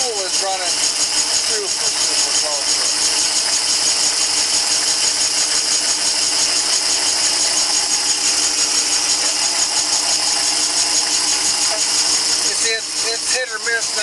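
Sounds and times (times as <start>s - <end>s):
high-pitched metallic rattle of cutter: 0.0s - 14.0s
motor hum: 0.0s - 14.0s.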